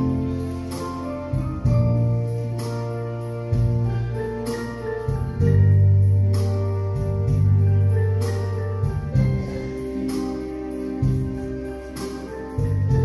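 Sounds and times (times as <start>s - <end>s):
electronic organ playing hymn: 0.0s - 13.0s.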